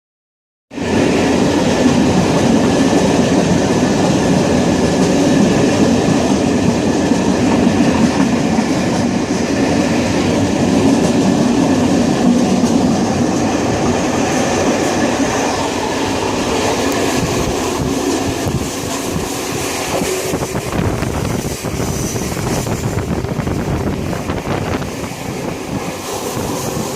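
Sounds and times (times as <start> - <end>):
train rumbling on rails: 0.7 - 26.9.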